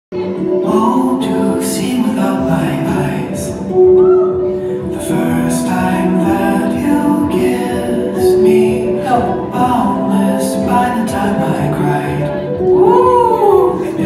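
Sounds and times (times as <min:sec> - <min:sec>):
slow song with vocals: 0:00.1 - 0:14.0.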